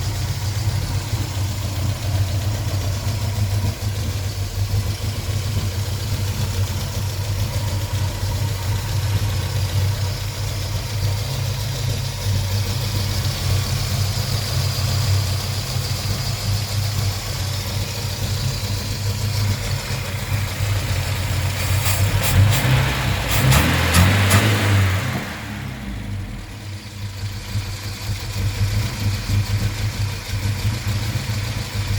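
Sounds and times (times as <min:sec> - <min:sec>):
car engine idling roughly: 0:00.0 - 0:31.9.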